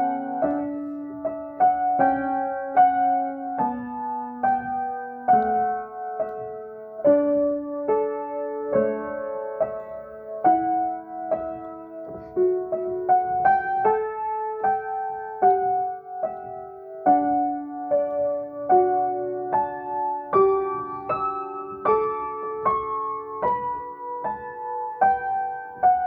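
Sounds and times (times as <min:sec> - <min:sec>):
acoustic piano chords: 0:00.0 - 0:26.0.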